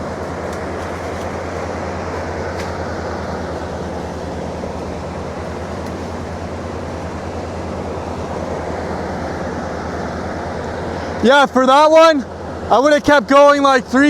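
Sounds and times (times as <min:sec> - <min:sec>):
engine droning steadily: 0:00.0 - 0:14.0.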